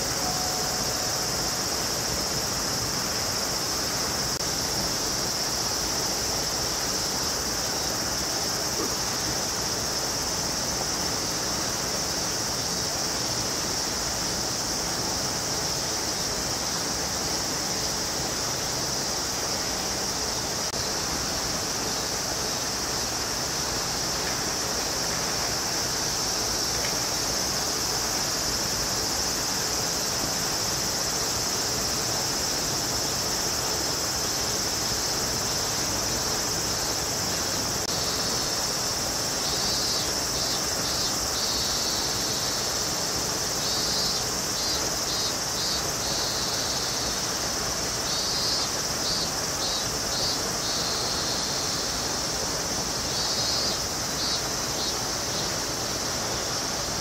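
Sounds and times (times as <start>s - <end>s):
cicadas droning: 0.0s - 57.0s.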